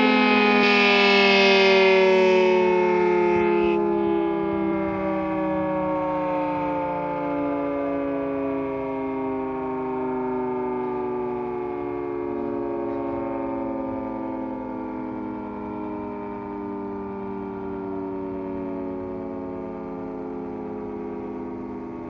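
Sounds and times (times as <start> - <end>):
siren winding down: 0.0 - 22.0.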